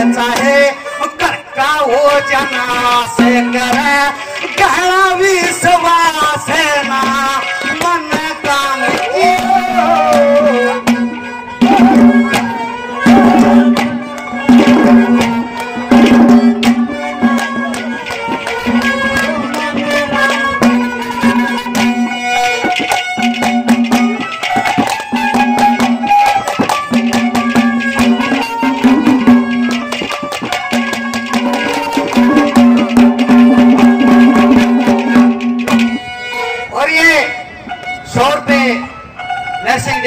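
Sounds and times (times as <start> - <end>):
hand drums beating: 0.0 - 36.2.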